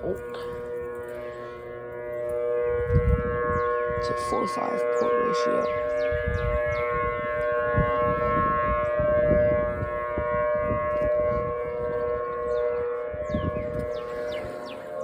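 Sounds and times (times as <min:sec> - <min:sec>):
outdoor warning sirens: 0:00.0 - 0:15.0.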